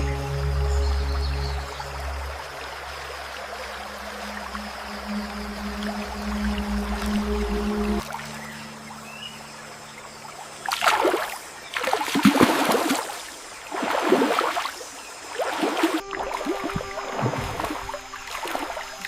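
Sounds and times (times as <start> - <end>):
water splashing: 1.4 - 9.1, 10.2 - 19.0.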